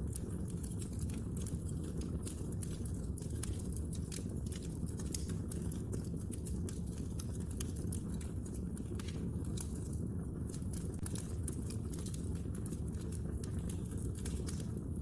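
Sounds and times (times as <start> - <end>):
logs crackling and popping: 0.0 - 15.0
low rumble of fire: 0.0 - 15.0.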